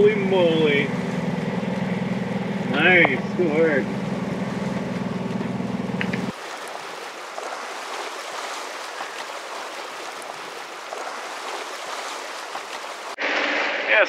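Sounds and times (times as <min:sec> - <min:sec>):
water rushing along boat hull: 0:00.0 - 0:14.0.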